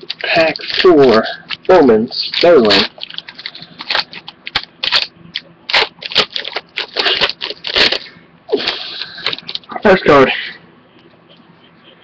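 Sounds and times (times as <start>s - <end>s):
wrapper crinkling and tearing: 0.0s - 9.7s.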